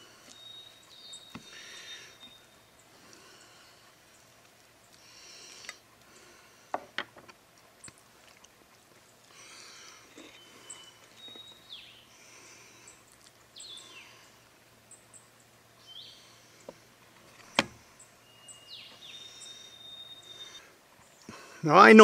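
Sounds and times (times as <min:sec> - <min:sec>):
songbirds calling: 0:00.0 - 0:22.0.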